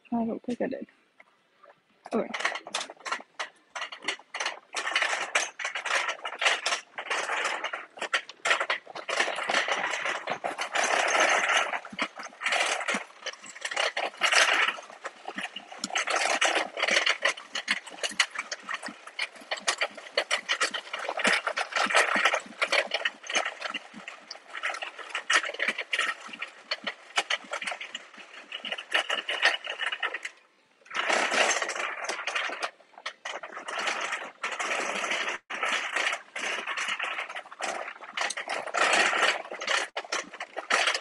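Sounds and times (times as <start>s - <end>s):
boxed goods jostling: 2.1s - 41.0s
shopping cart rattling on tile: 2.1s - 41.0s.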